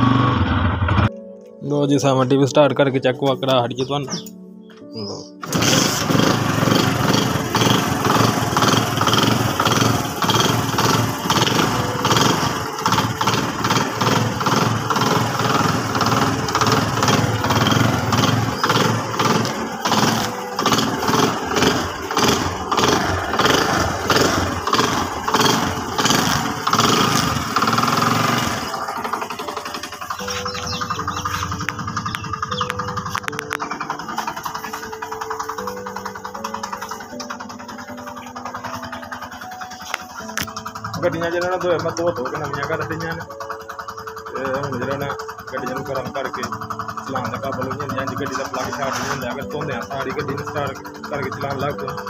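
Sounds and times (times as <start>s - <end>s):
motorcycle engine running: 0.0s - 1.1s, 4.9s - 52.0s.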